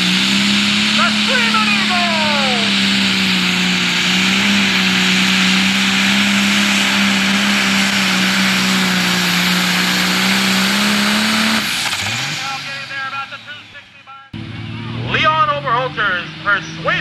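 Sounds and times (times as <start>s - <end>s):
diesel tractor engine at full load: 0.0s - 17.0s.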